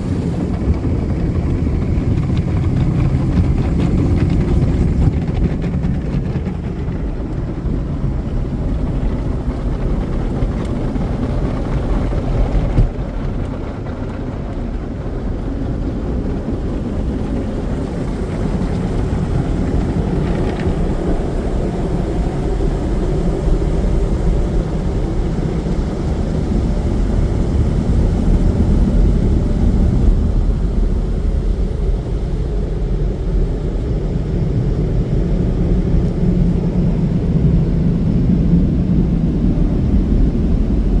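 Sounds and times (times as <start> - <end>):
car wash machinery roaring: 0.0 - 41.0.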